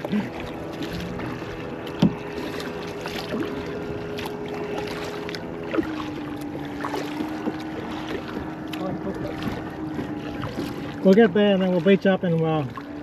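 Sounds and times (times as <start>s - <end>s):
paddle knocking on hull: 0.1s - 12.9s.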